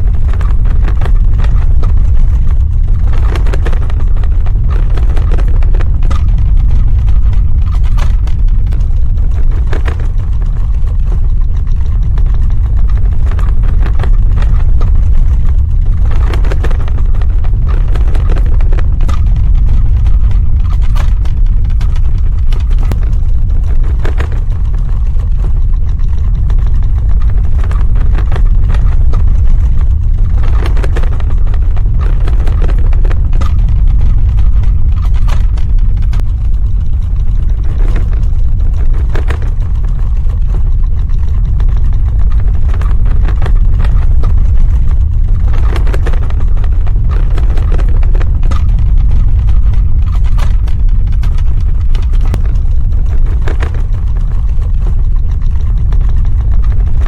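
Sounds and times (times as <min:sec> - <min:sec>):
crackling and rattling: 0:00.0 - 0:57.0
deep earthquake rumble: 0:00.0 - 0:57.0.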